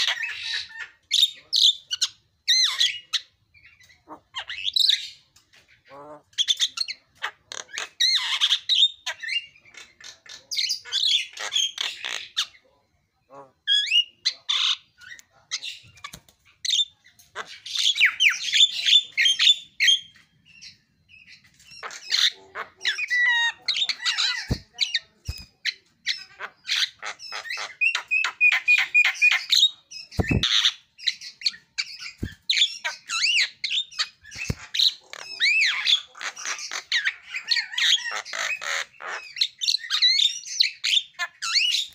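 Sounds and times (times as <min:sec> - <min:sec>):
myna bird singing: 0:00.0 - 0:41.9.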